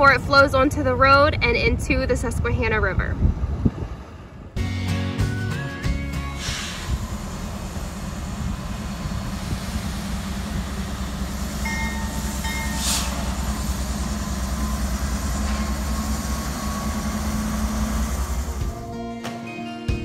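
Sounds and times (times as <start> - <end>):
train locomotive rumbling: 0.0 - 18.8.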